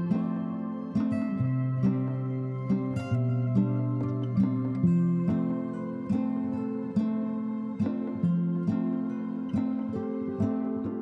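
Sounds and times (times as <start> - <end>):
soft plucked string music: 0.0 - 11.0.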